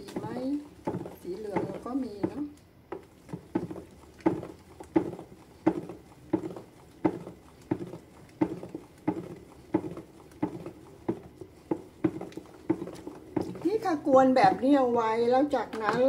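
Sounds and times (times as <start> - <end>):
liquid sloshing: 0.0 - 16.0
stirrer knocking against bucket: 0.0 - 16.0.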